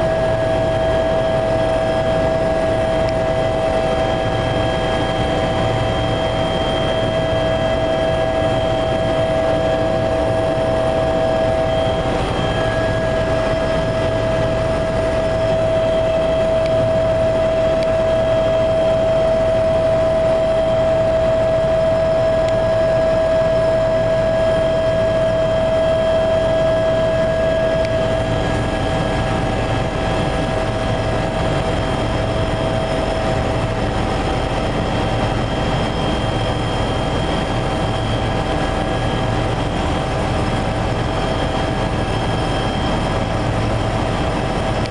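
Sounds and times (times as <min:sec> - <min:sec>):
helicopter engine and rotor drone: 0:00.0 - 0:44.9
steady high whine: 0:00.0 - 0:44.9.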